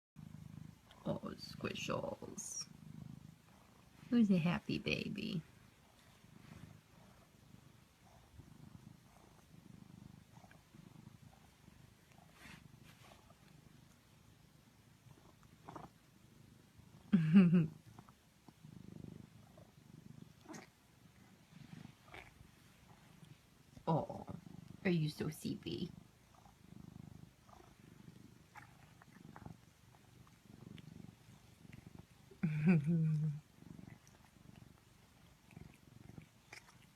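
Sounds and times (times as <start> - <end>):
cat purring: 0.2 - 36.9.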